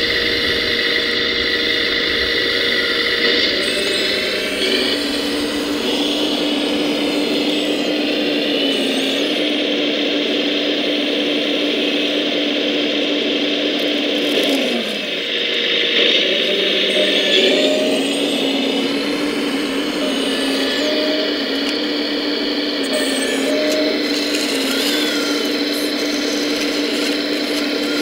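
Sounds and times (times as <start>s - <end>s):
electric motor and pump whine: 0.0s - 28.0s.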